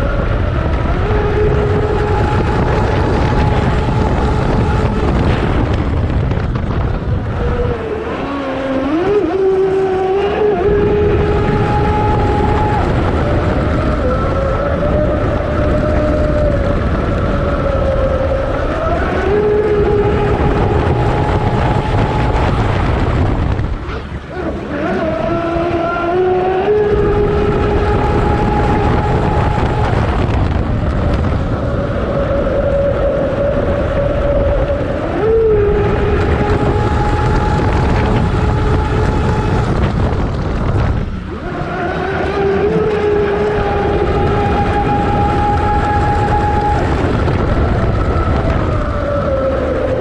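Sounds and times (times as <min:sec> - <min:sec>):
water rushing along hull: 0:00.0 - 0:50.0.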